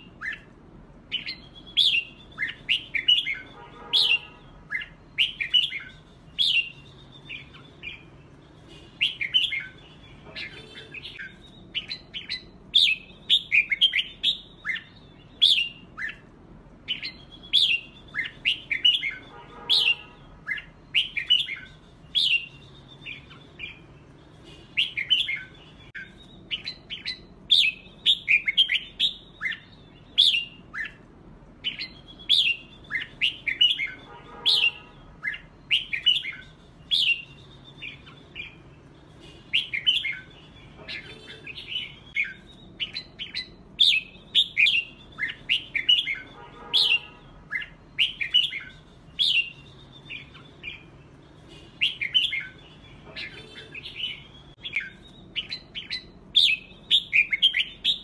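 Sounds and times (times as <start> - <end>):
birds singing whistled phrases: 0.0 - 58.0.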